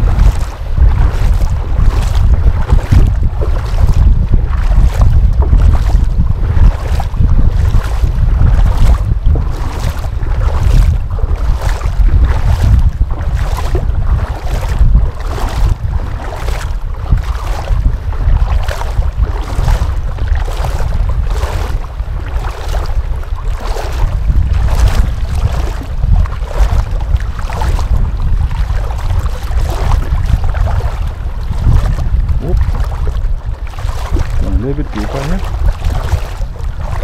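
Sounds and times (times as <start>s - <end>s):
wading steps splashing: 0.0s - 37.0s
wind rumble on microphone: 0.0s - 37.0s.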